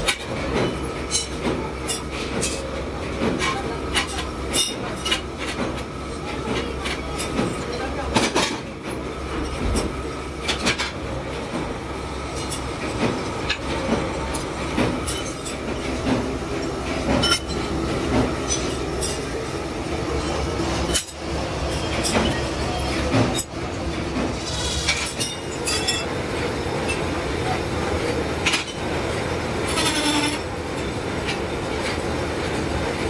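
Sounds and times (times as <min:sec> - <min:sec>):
machine tools rumbling: 0:00.0 - 0:33.0.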